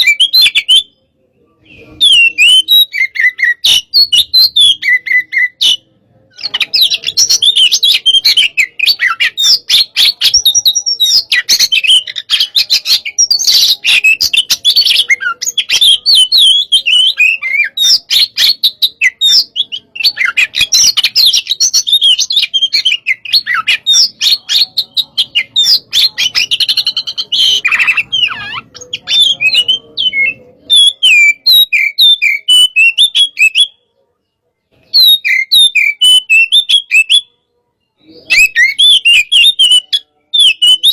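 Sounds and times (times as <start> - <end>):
magpie-robin singing: 0.0 - 33.9, 34.7 - 40.9.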